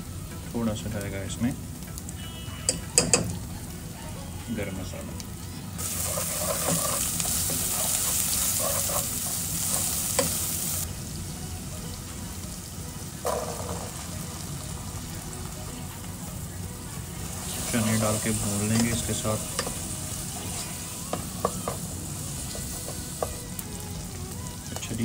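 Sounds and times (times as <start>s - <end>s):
masala sizzling in hot oil: 0.0s - 25.0s.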